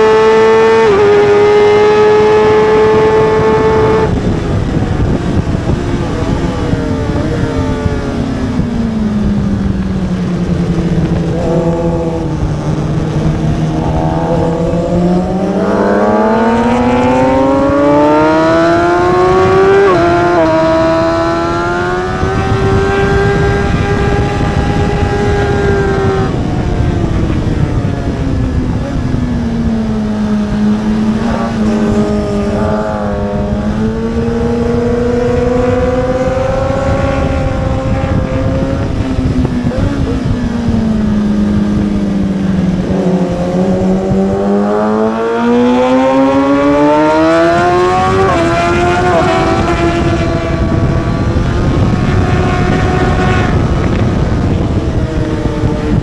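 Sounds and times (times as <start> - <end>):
motorcycle engine revving: 0.0 - 56.0
wind rushing: 0.0 - 56.0.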